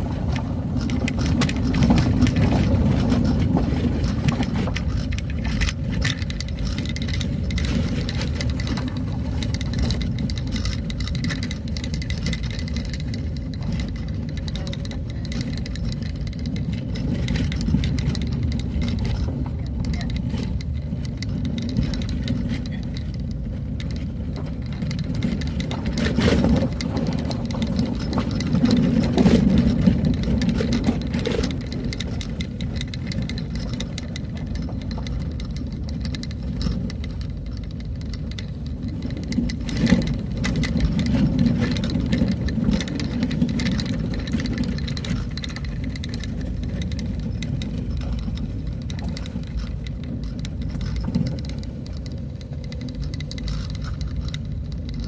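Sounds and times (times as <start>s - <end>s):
engine and road rumble: 0.0s - 55.0s
vehicle rattling and knocks: 0.0s - 55.0s.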